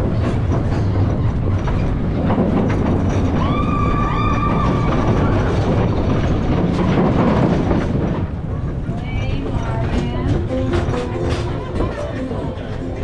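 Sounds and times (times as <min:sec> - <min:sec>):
knocks and clatter: 0:00.0 - 0:13.0
roller coaster cars rumbling: 0:00.0 - 0:13.0.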